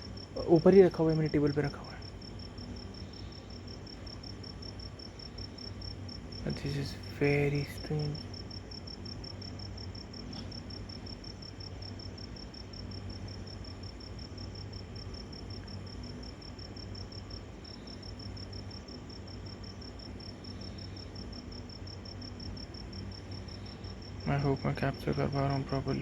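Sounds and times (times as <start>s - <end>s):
crickets chirping: 0.0s - 26.0s
low steady hum: 0.0s - 26.0s.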